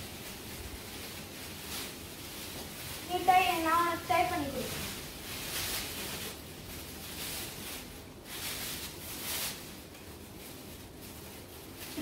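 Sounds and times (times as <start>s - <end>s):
plastic aprons rustling: 0.0s - 12.0s.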